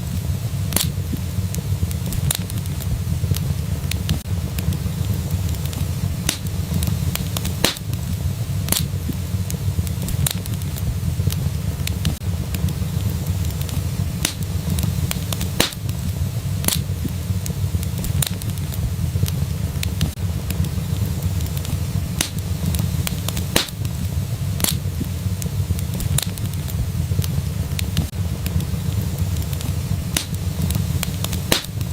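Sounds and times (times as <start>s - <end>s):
fire crackling in a fireplace: 0.0s - 31.9s
sharp pops of fire: 0.0s - 31.9s.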